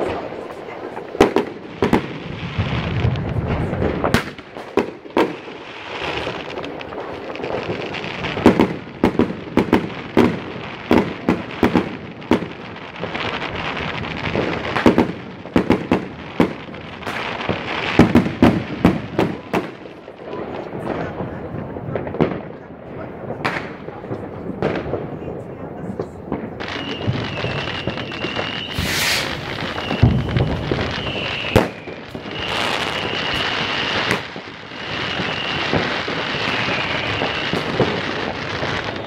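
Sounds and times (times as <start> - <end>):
distant fireworks din: 0.0 - 39.0
firework rockets bursting: 0.0 - 39.0.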